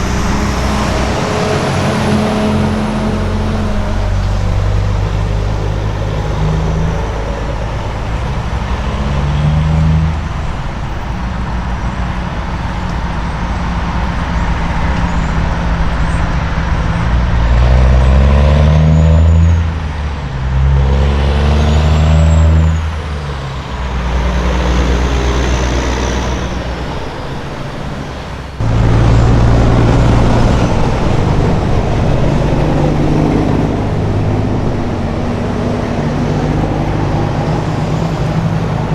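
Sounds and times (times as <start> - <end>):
road noise: 0.0 - 38.9
trucks driving by: 0.0 - 38.9.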